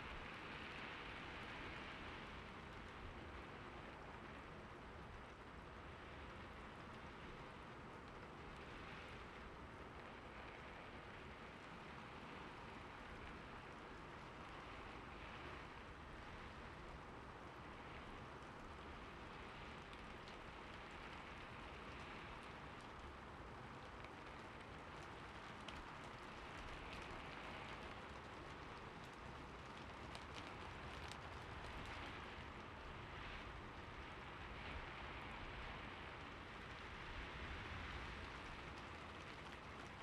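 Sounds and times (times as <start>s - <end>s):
light rain falling: 0.0s - 40.0s.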